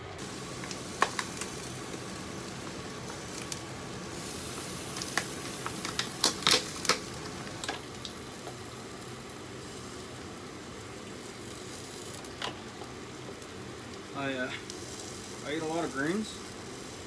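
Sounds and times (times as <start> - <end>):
sizzling: 0.0 - 17.0.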